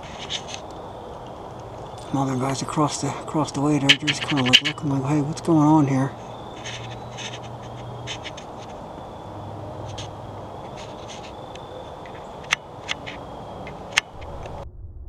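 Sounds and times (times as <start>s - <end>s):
low background hiss: 0.0s - 14.4s
light rustling: 0.0s - 14.5s.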